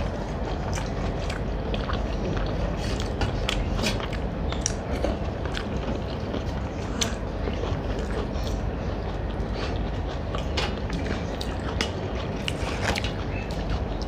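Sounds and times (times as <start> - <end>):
chewing with wet mouth clicks: 0.0 - 14.0.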